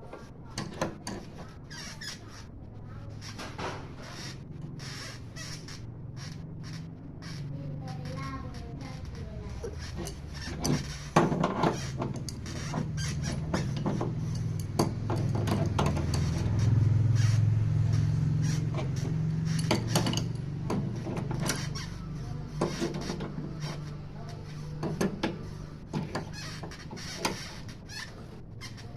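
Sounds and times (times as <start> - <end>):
low motor hum: 2.5 - 28.9.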